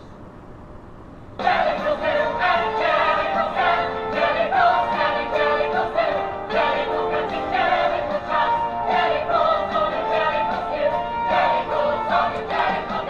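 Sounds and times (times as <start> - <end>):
backing music: 1.4 - 13.0
choir singing: 1.4 - 13.0.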